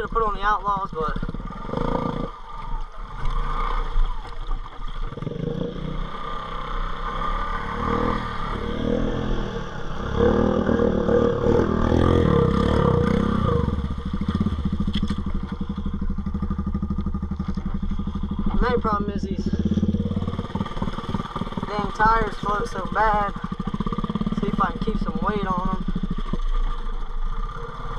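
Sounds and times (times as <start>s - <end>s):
atv engine revving: 0.0s - 27.9s.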